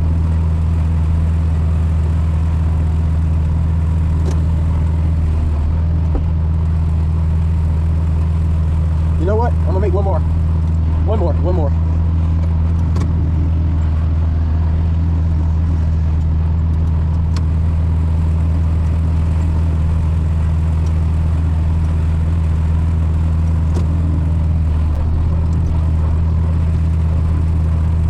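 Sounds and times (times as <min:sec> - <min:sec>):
tractor engine droning: 0:00.0 - 0:28.0.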